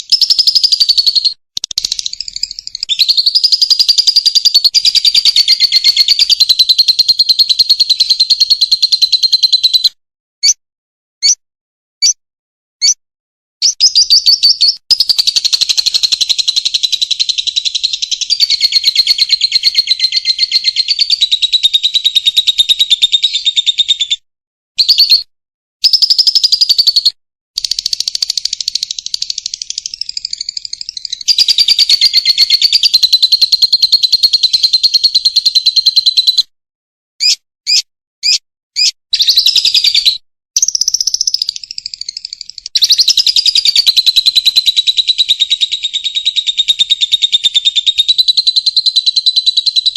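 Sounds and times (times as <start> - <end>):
lovebird chatter trills: 0.0 - 9.9, 13.6 - 23.7, 25.9 - 36.4, 37.2 - 49.9.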